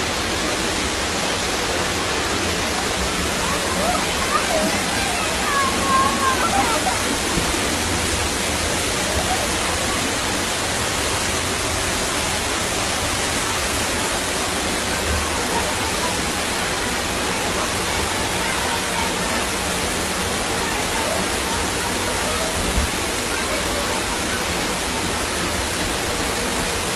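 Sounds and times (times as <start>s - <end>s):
floodwater rushing: 0.0s - 26.9s.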